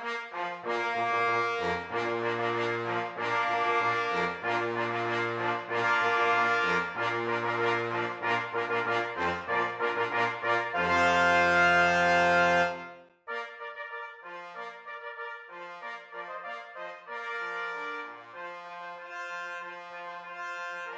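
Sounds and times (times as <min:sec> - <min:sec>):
brass ensemble playing slow tune: 0:00.0 - 0:20.9.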